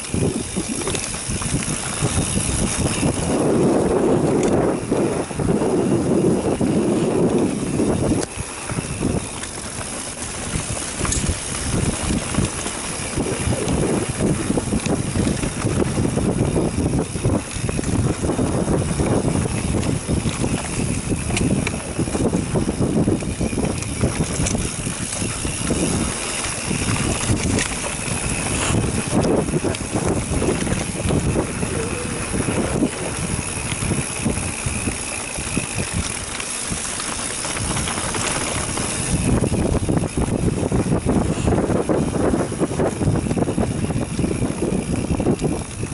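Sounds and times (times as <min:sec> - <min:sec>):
bike tyres rumbling and rattling: 0:00.0 - 0:45.9
wind buffeting microphone: 0:00.0 - 0:45.9.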